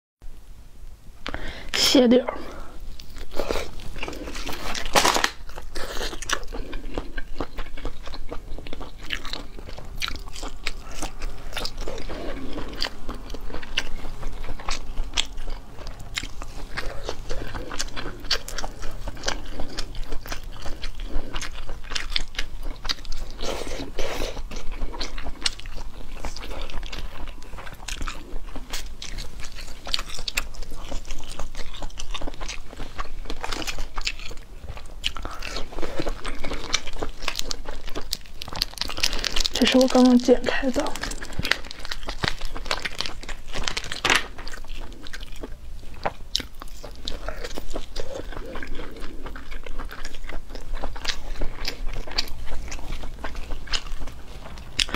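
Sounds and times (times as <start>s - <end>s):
person chewing with wet clicks: 2.5s - 54.9s.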